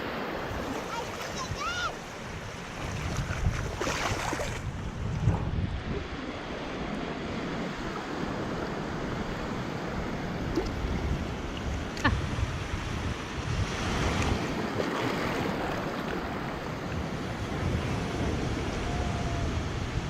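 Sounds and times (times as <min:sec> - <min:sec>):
ocean surf breaking: 0:00.0 - 0:04.7, 0:05.6 - 0:20.0
wind buffeting microphone: 0:00.4 - 0:20.0.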